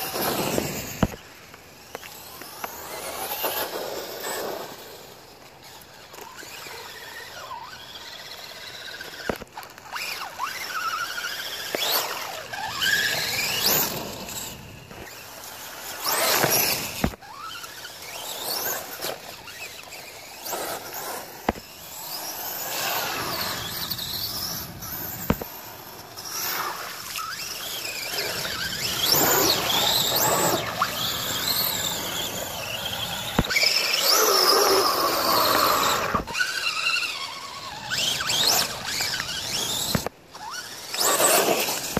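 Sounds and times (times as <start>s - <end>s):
electric motor whining: 5.8s - 41.9s.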